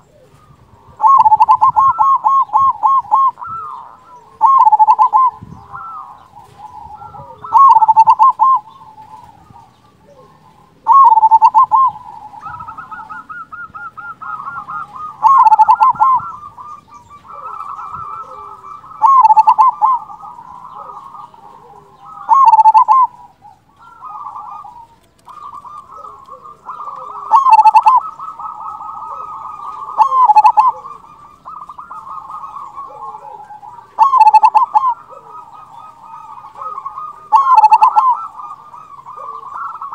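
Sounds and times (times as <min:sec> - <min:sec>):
dove cooing song: 0:00.0 - 0:39.9
trilling coo: 0:00.0 - 0:39.9.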